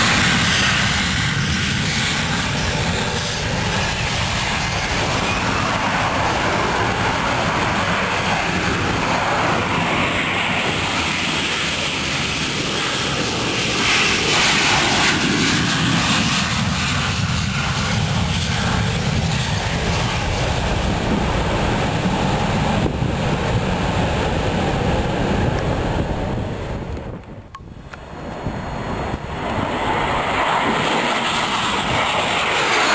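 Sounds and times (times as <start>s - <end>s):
aircraft engines roaring: 0.0s - 32.9s.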